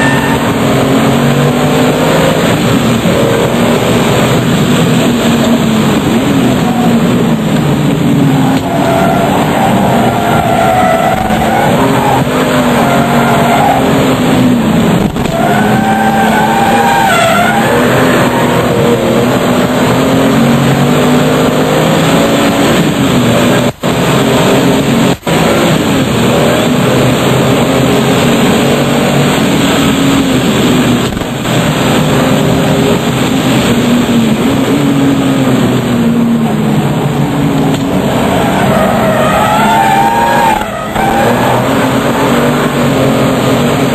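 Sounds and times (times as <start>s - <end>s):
sports car engine revving: 0.0s - 43.9s.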